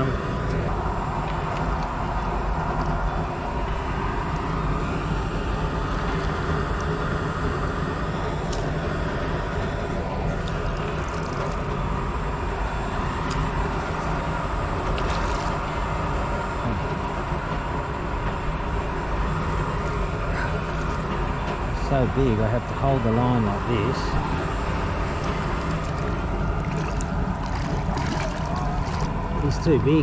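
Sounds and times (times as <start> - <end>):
outdoor rumble: 0.0 - 30.0.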